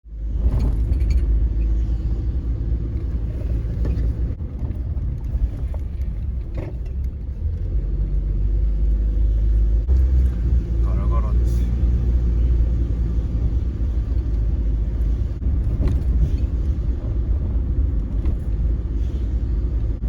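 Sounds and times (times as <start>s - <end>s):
car rumble from inside cabin: 0.1s - 20.0s.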